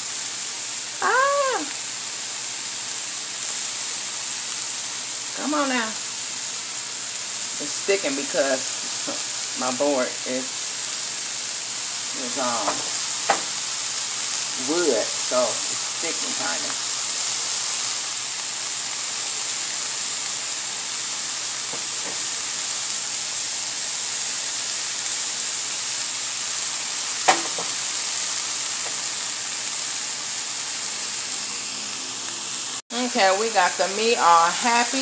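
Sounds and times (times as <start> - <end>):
meat sizzling in frying pan: 0.0 - 35.0.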